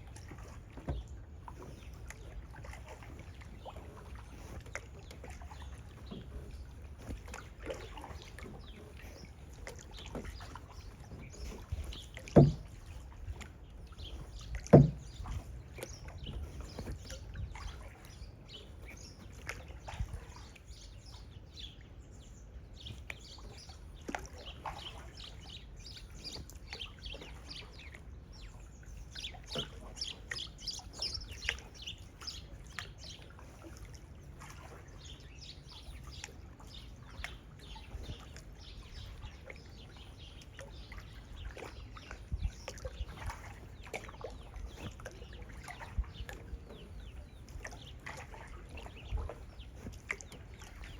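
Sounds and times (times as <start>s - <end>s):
small birds chirping: 0.1s - 50.9s.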